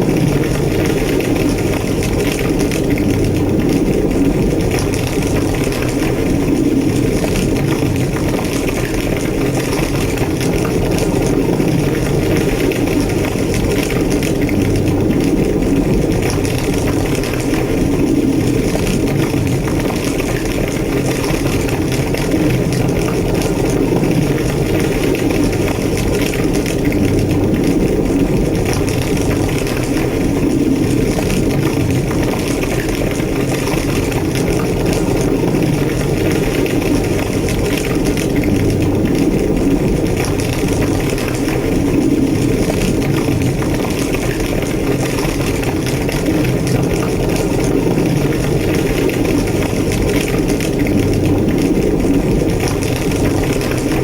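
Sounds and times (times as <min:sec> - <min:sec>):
large fire roaring and crackling: 0:00.0 - 0:54.0.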